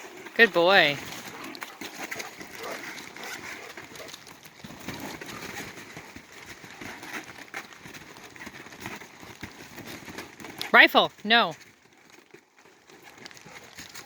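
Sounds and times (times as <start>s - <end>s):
paws pattering on trampoline: 0.0s - 14.0s.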